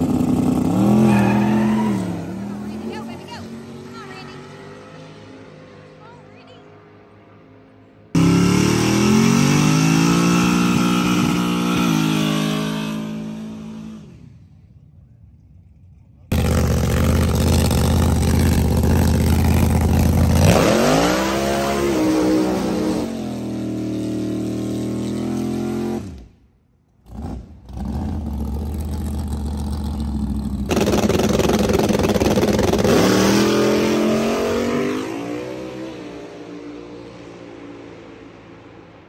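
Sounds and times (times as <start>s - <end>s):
drag race engines revving: 0.0s - 14.6s, 15.2s - 26.3s, 27.0s - 38.4s.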